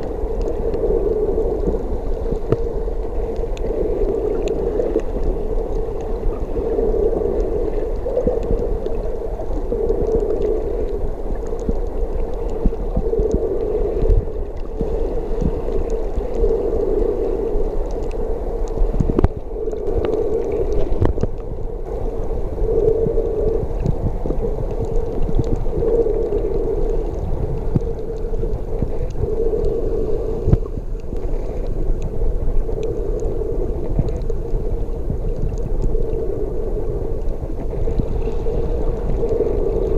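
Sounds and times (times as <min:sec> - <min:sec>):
faint clicks: 0:00.0 - 0:39.9
muffled sea water swell: 0:00.0 - 0:39.9.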